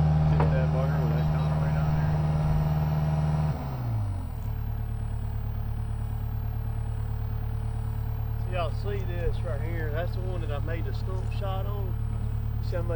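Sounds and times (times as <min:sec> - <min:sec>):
engine revving and idling: 0:00.0 - 0:12.9.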